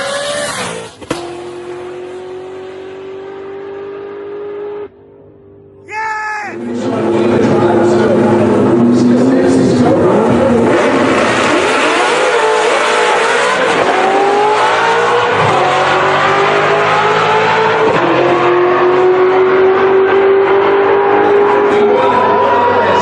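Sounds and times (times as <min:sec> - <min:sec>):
car engine revving through gears: 0:00.0 - 0:05.7, 0:06.6 - 0:23.0.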